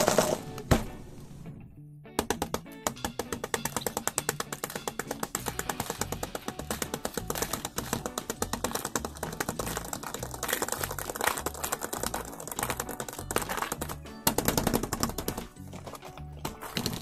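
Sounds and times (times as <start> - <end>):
rapid keyboard clicking: 2.2 - 17.0.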